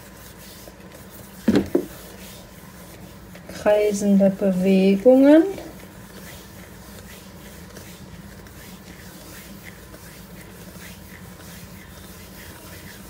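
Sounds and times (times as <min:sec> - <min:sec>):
dough rubbing on paper: 0:00.0 - 0:13.0.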